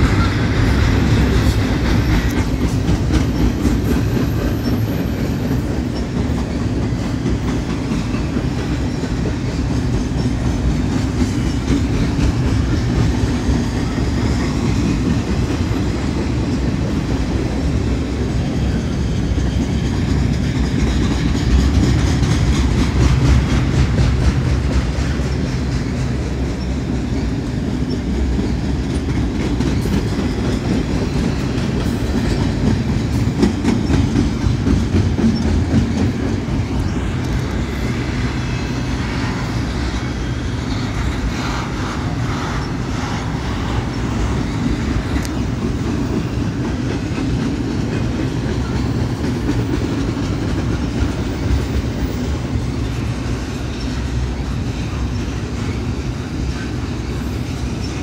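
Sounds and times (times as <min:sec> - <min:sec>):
clicking over rail joints: 0:00.0 - 0:55.4
freight train wheels on rails: 0:00.0 - 0:58.0.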